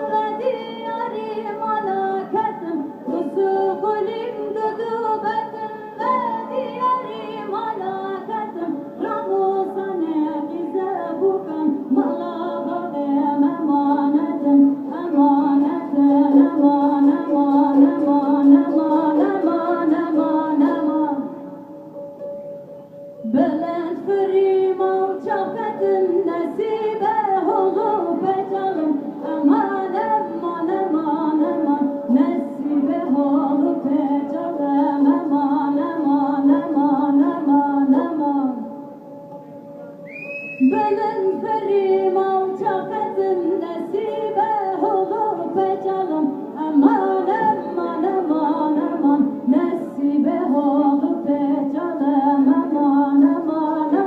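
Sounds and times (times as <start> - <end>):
woman singing folk song: 0.0 - 21.4, 23.2 - 38.8, 40.6 - 54.0.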